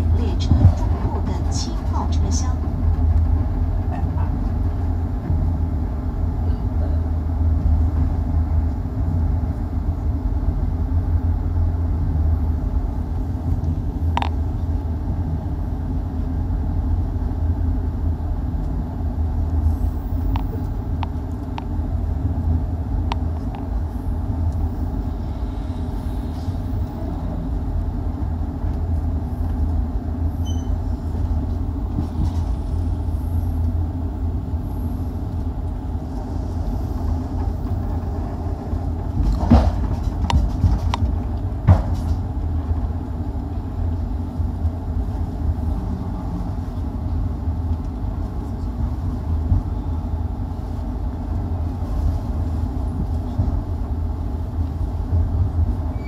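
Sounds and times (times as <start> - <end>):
train coach rumbling on track: 0.0 - 56.0.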